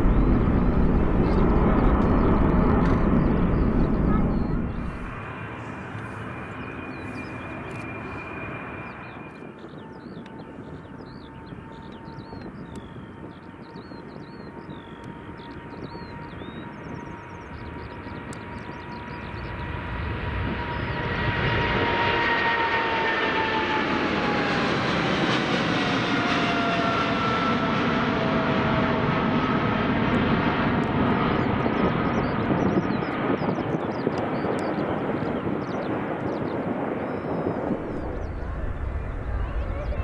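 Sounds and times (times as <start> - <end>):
jet engines at takeoff thrust: 0.0 - 40.0
jet fan whine: 0.0 - 40.0.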